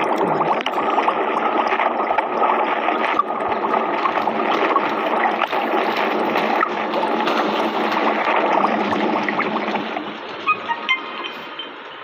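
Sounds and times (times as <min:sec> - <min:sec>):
small bubble pops: 0:00.0 - 0:09.8
underwater bubbling and gurgling: 0:00.0 - 0:12.0.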